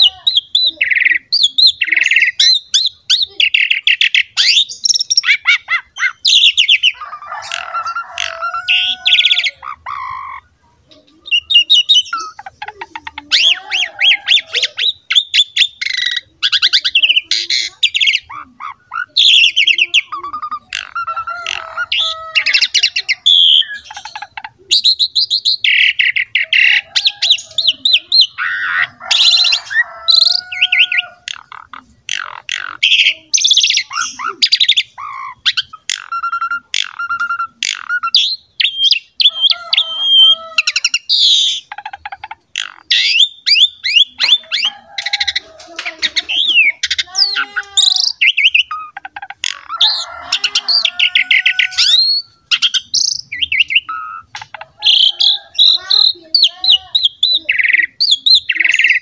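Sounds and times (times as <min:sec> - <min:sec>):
starling singing trills and squawks: 0:00.0 - 0:59.0.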